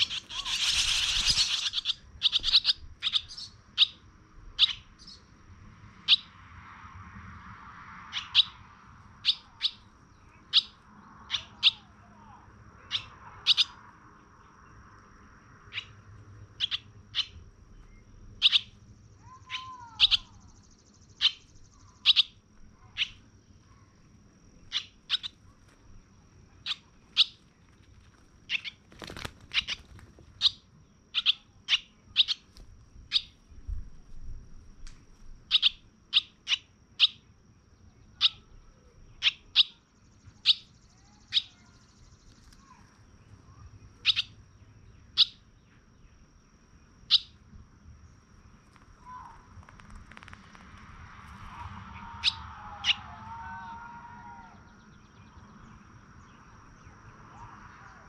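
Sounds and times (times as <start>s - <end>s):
small bird chirping: 0.0s - 5.4s, 6.0s - 6.3s, 8.1s - 8.6s, 9.2s - 53.0s.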